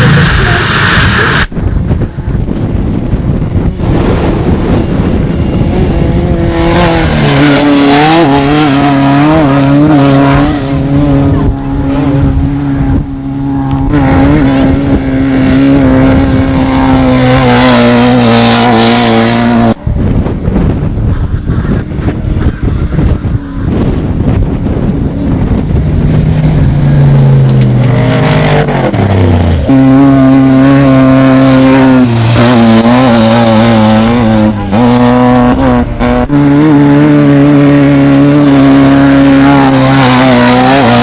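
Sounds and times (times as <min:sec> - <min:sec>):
dirt noise: 0:00.0 - 0:41.0
race vehicle engine revving: 0:00.0 - 0:41.0.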